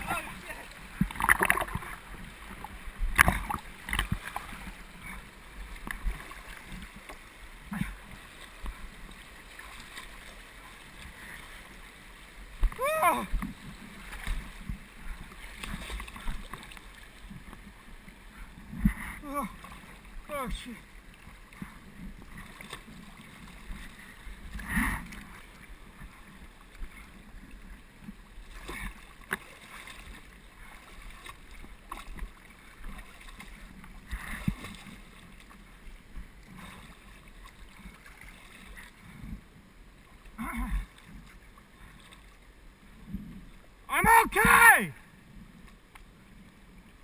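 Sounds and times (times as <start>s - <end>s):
water lapping along hull: 0.0s - 47.0s.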